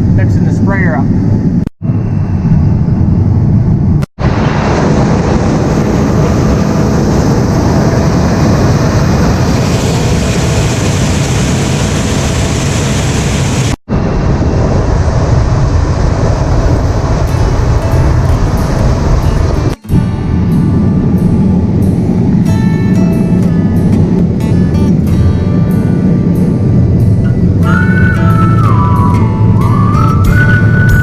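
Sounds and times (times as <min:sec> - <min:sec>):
combine harvester drone: 0:00.0 - 0:31.0.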